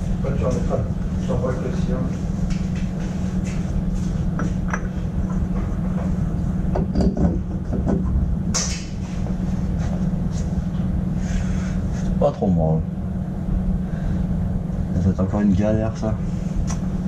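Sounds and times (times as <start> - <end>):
low workshop hum: 0.0 - 17.0.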